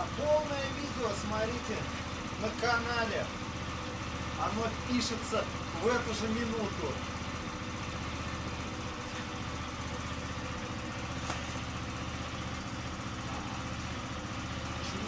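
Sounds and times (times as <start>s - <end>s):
scooter two-stroke engine idling: 0.0s - 15.0s.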